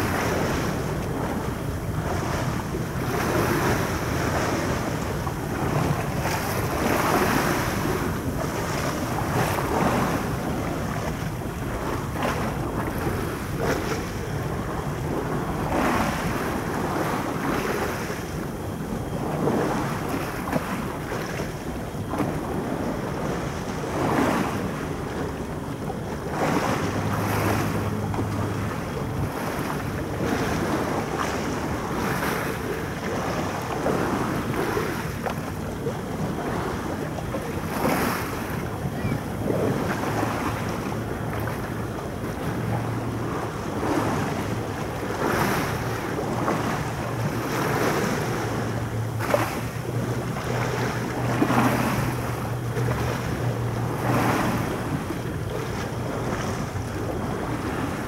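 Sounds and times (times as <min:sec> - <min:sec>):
steady low hum: 0:00.0 - 0:58.0
wind rumbling on microphone: 0:00.0 - 0:58.0.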